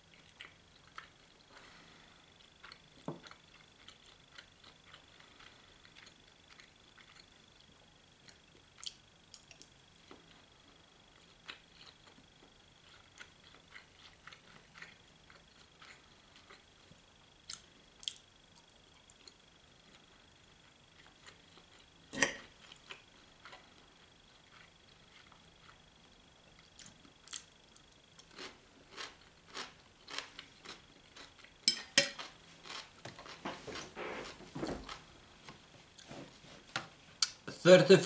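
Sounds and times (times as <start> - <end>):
mouth chewing food: 0.0 - 10.4, 11.1 - 35.1.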